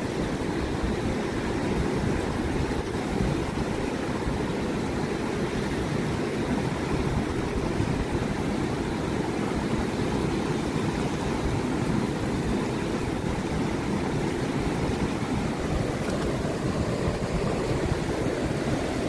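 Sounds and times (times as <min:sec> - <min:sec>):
turbulent river water rushing: 0:00.0 - 0:19.0.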